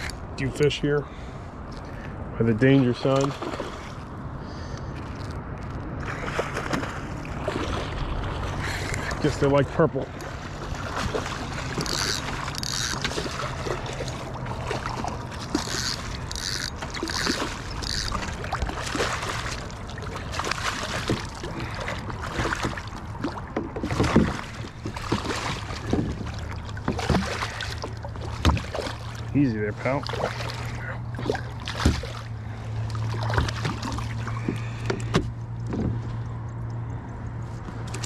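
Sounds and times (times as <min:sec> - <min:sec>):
knocks and splashes against hull: 0:05.9 - 0:36.6.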